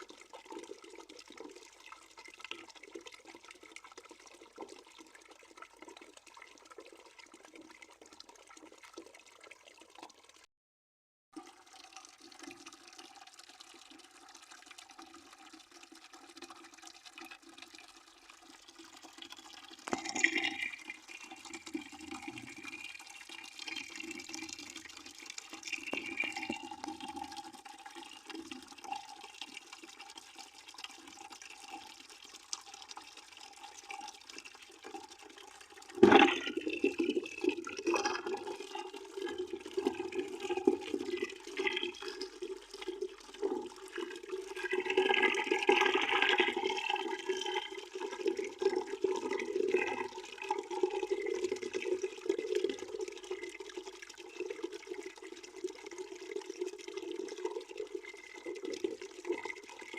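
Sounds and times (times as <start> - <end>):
water running into bucket: 11.4 - 59.9.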